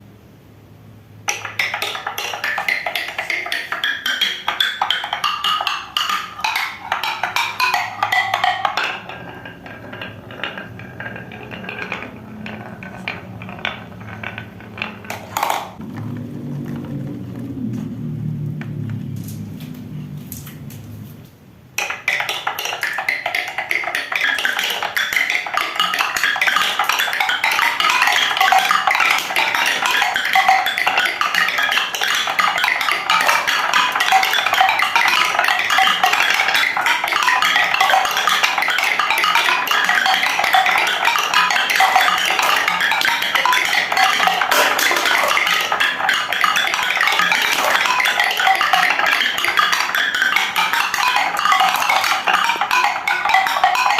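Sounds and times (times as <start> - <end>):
marbles rattling down wooden tracks: 1.3 - 17.4, 21.8 - 53.9.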